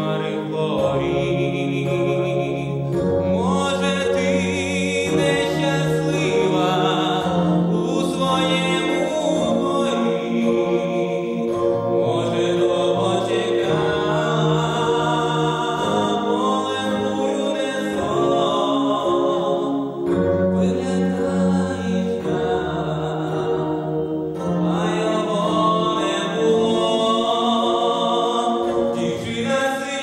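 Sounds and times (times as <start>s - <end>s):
instrumental accompaniment: 0.0s - 30.0s
person singing into a microphone: 0.0s - 30.0s.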